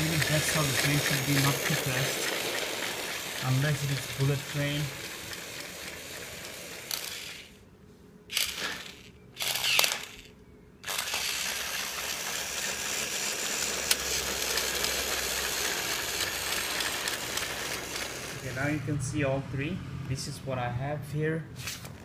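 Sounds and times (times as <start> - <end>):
toy train motor whirring: 0.0 - 7.6, 8.3 - 18.7.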